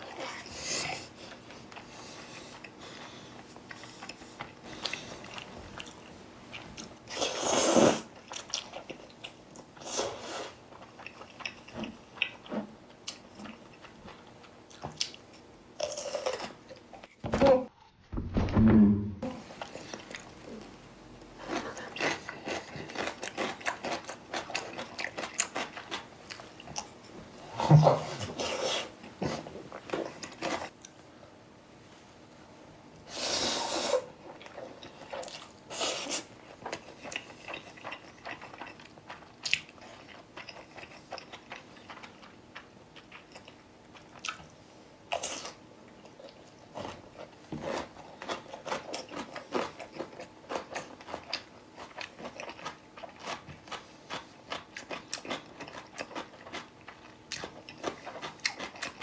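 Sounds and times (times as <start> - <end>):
wet chewing of noodles: 0.0 - 17.1, 19.6 - 31.0, 33.0 - 59.0.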